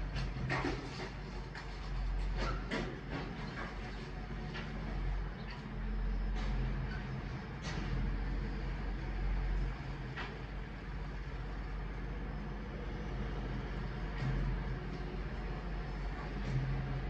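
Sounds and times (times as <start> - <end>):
garbage truck engine rumbling: 0.0 - 17.0.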